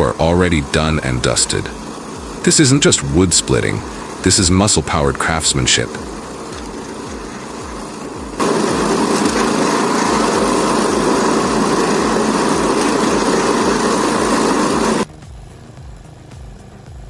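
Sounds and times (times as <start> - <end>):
loud rushing machinery noise: 0.0 - 16.8
engine running with even beat: 0.0 - 17.0.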